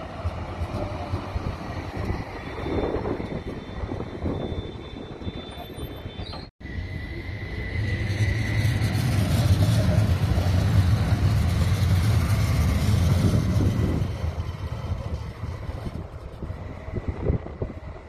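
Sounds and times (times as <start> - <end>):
tram rumbling past: 0.0 - 18.0.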